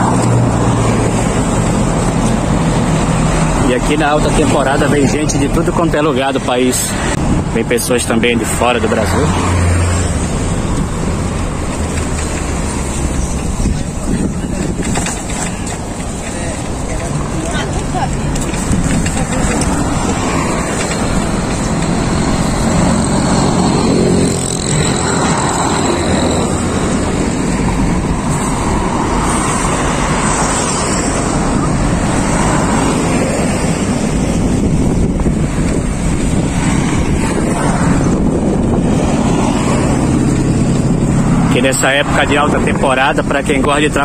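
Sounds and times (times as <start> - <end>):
cars driving past: 0.0 - 44.0
wind rumble on microphone: 0.0 - 44.0.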